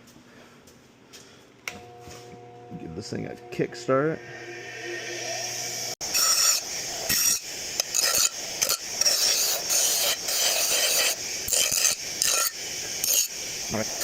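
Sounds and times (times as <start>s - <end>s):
bench grinder grinding metal: 1.8s - 14.0s.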